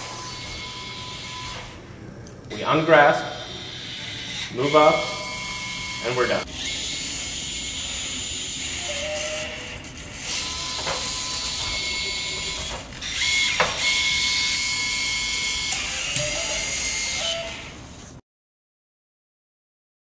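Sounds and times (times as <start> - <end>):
robotic arm whine: 0.0 - 18.2.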